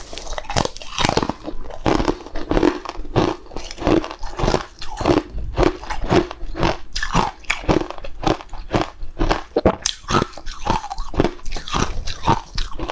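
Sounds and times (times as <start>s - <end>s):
person chewing crunchy food: 0.0s - 12.9s.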